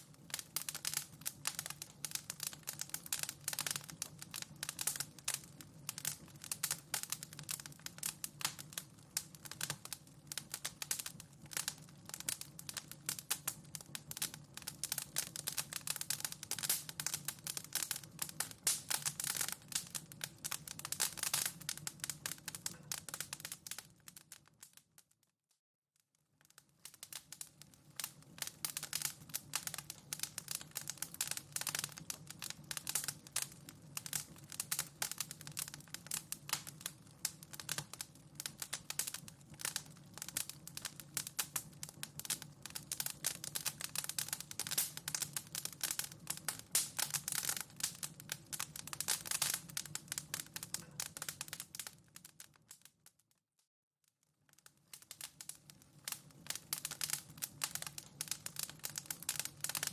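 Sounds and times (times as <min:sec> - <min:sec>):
wood fire crackling: 0:00.0 - 0:25.0, 0:26.3 - 0:53.1, 0:54.4 - 0:59.9.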